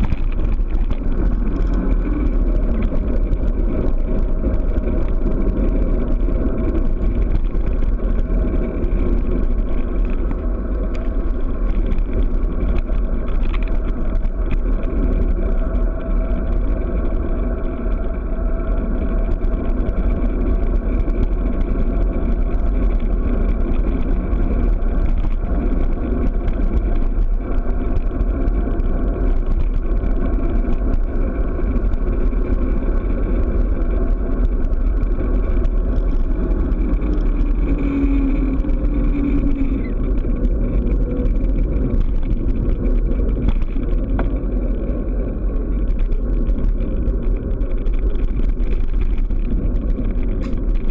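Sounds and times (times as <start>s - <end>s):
bicycle tyre noise on road: 0.0s - 50.9s
wind rumble on microphone: 0.0s - 50.9s.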